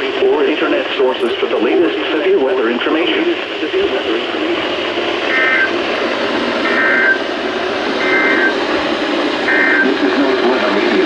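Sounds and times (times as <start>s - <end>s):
radio static hiss: 0.0s - 11.0s
warbling data tones: 1.2s - 11.0s.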